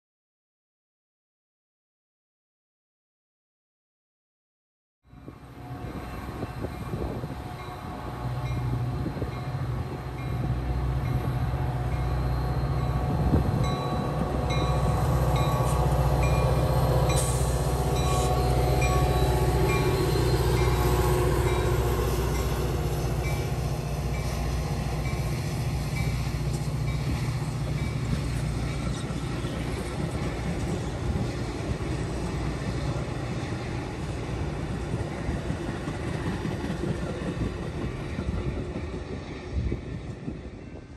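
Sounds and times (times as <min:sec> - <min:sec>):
diesel locomotive passing: 0:05.1 - 0:40.9
train wheels rumbling on rail: 0:05.3 - 0:40.9.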